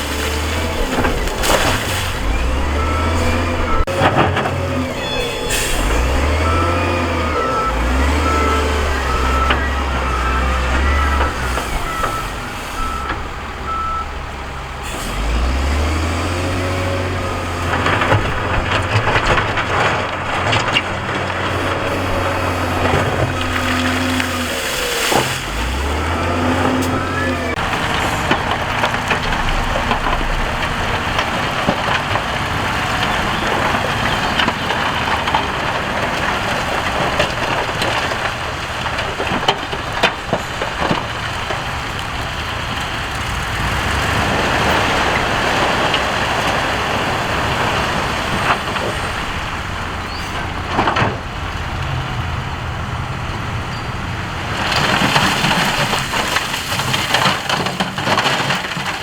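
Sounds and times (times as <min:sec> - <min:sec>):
diesel engine under load: 0:00.0 - 0:59.0
gravel and rock grinding: 0:00.0 - 0:59.0.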